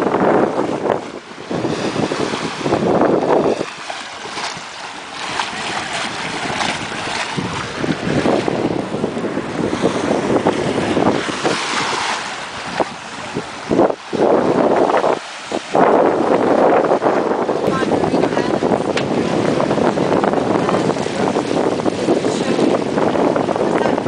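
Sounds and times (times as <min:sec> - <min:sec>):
water rushing along a hull: 0:00.0 - 0:24.0
wind buffeting microphone: 0:00.0 - 0:24.0.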